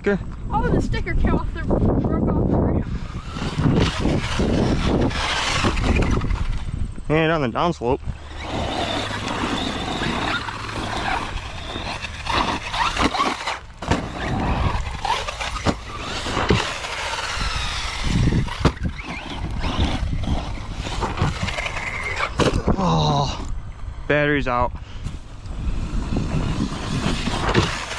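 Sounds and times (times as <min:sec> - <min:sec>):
tyre and chassis noise: 0:00.0 - 0:22.8, 0:25.0 - 0:27.9
toy truck motor whining: 0:02.8 - 0:07.0, 0:08.1 - 0:24.0, 0:25.4 - 0:27.9.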